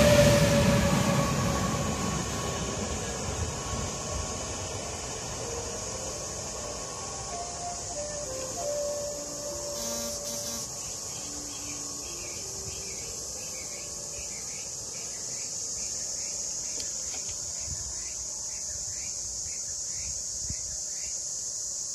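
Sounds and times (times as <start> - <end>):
insects buzzing: 0.0 - 21.9.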